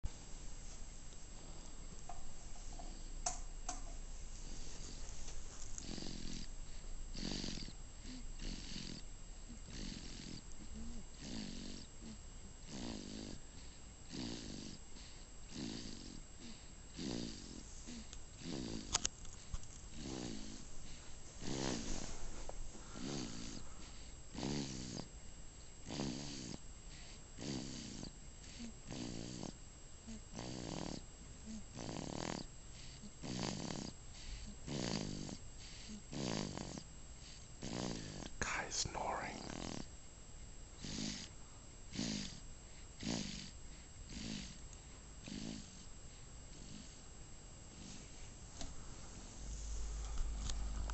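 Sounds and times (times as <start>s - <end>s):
baby snoring: 5.8s - 9.1s, 9.7s - 25.1s, 25.8s - 39.9s, 40.8s - 44.6s, 45.2s - 45.9s, 46.5s - 47.0s, 47.7s - 50.9s.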